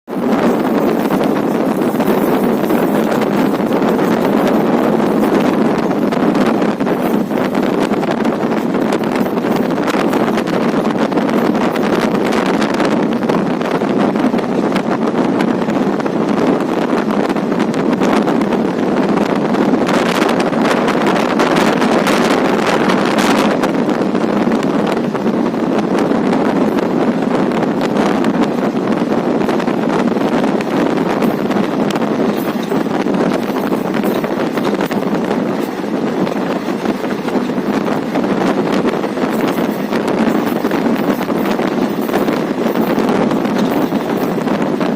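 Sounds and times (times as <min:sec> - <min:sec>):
train running at speed: 0:00.0 - 0:44.9
wind rushing over microphone: 0:00.0 - 0:44.9.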